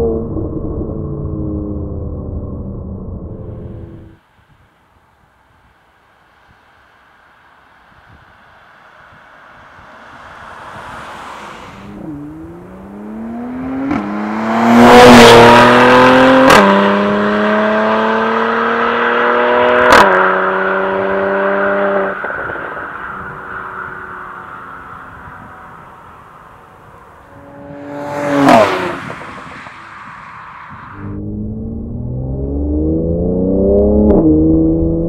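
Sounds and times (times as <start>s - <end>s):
car engine accelerating: 0.0s - 4.2s, 9.4s - 35.0s.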